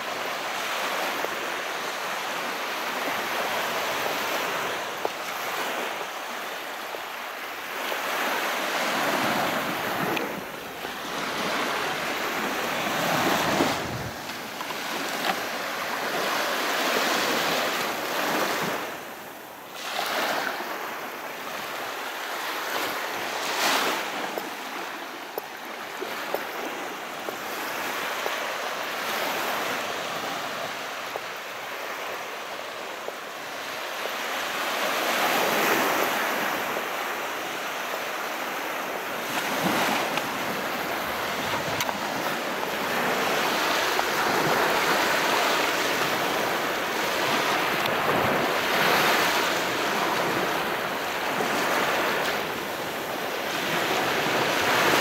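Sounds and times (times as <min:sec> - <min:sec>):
sea waves washing ashore: 0:00.0 - 0:55.0.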